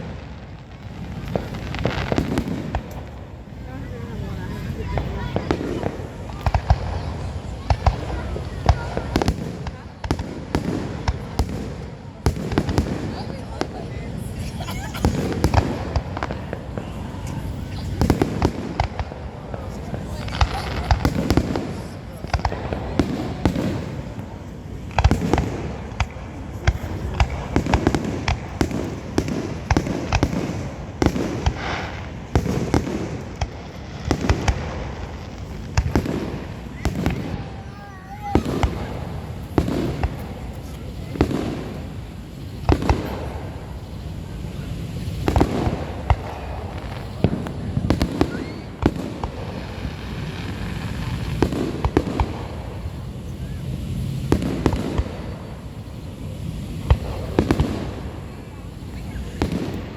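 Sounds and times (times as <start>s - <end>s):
fireworks bangs and pops: 0.0s - 59.9s.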